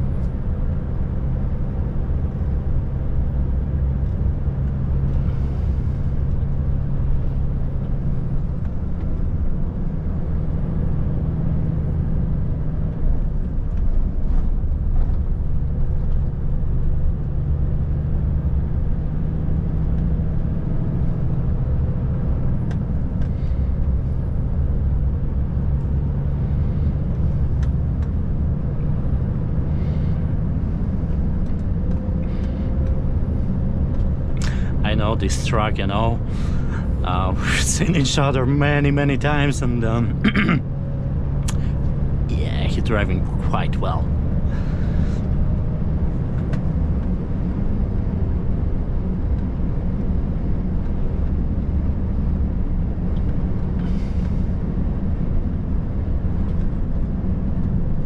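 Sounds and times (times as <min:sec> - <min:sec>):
diesel truck engine running: 0:00.0 - 0:58.0
road and tyre noise: 0:00.0 - 0:58.0.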